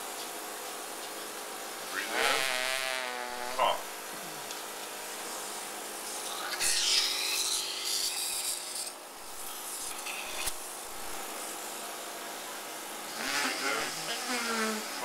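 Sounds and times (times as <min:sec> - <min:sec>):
machine humming: 0:01.8 - 0:15.0.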